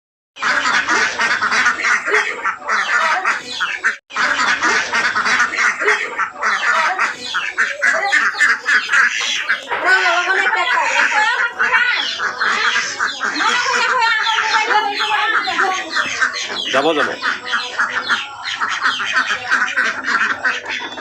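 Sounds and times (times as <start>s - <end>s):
ducks quacking: 0.4s - 21.0s.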